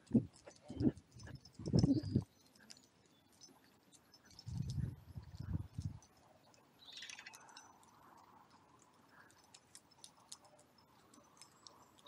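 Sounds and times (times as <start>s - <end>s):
faint scattered ticks: 0.0s - 12.0s
soft rustle: 0.0s - 12.0s.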